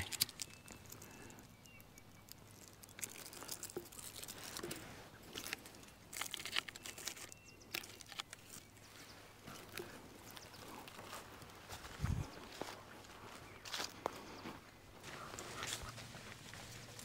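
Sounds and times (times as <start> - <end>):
crinkling: 0.0 - 17.0.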